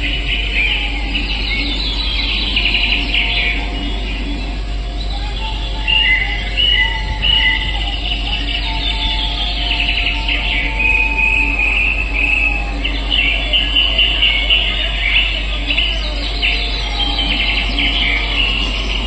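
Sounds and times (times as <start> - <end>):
birds chirping and trilling: 0.0 - 19.0
steady low hum: 0.0 - 19.0.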